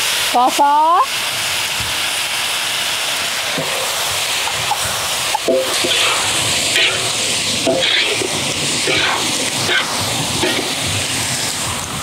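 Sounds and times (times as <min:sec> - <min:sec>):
peppers sizzling in a wok: 0:00.0 - 0:12.0.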